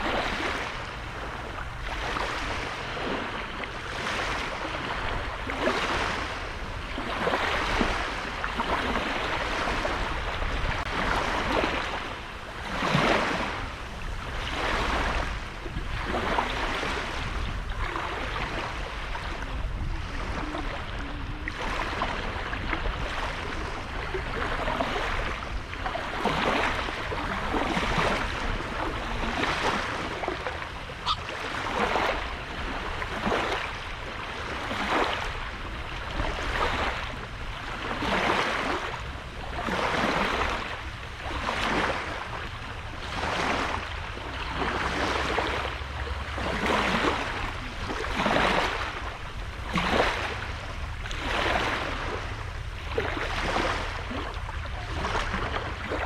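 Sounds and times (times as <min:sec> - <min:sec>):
waves washing onto beach: 0:00.0 - 0:56.0.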